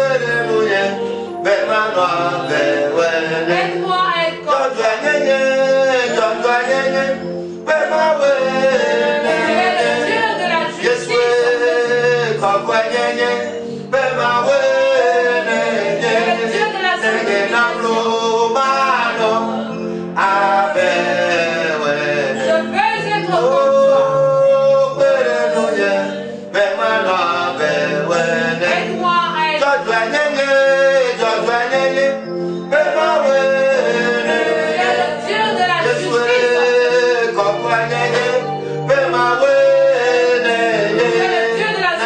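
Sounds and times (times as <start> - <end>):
instrumental accompaniment: 0.0 - 42.0
man singing worship song: 0.0 - 42.0.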